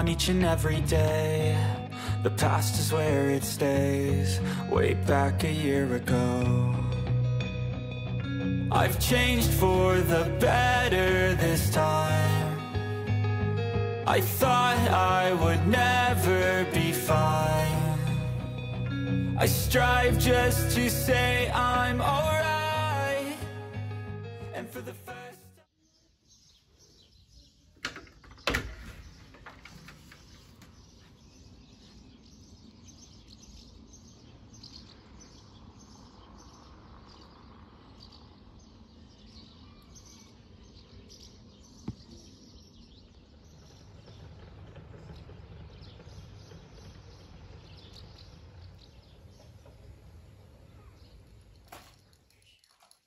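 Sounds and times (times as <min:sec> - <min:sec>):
birds chirping: 0:00.0 - 0:24.8, 0:25.6 - 0:53.0.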